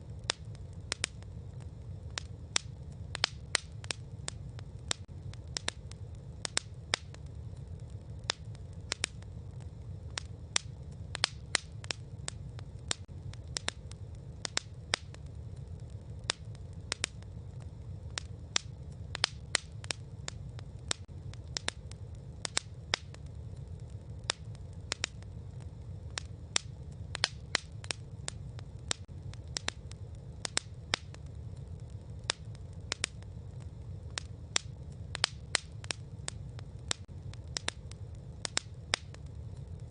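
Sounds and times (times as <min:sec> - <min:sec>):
campfire crackling and popping: 0:00.0 - 0:39.9
low rumble of burning wood: 0:00.0 - 0:39.9.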